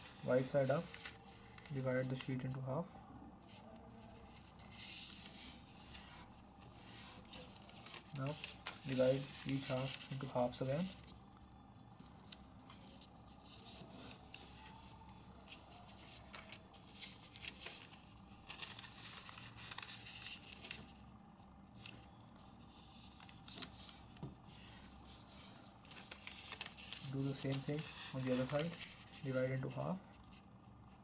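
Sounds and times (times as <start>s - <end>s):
paper rustling and crackling: 0.0s - 2.6s, 3.5s - 21.1s, 21.7s - 30.4s.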